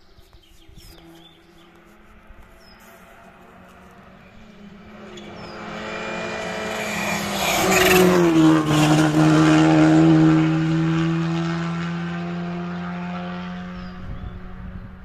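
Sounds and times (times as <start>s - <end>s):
rally car passing by: 1.0s - 15.0s.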